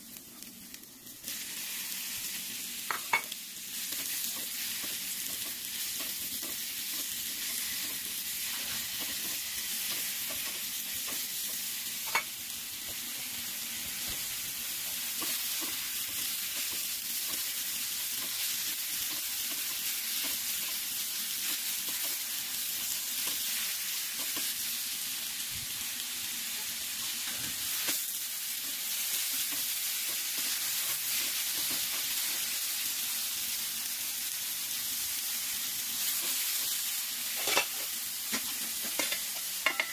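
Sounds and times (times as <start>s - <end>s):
vegetables sizzling in a pan: 0.0s - 39.9s.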